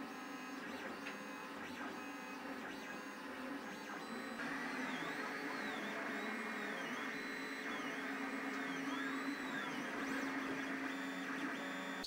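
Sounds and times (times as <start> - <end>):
stepper motors whining: 1.0 - 12.0.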